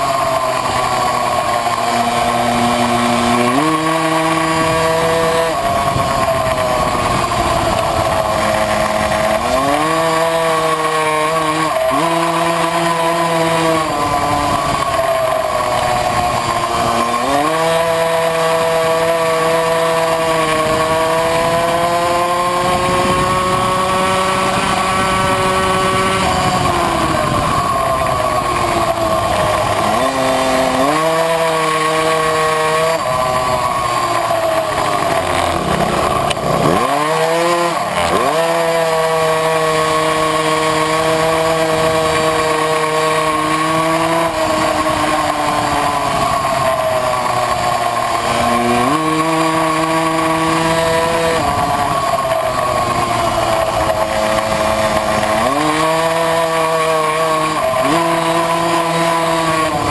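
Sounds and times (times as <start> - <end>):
moped engine at high revs: 0.0 - 59.9.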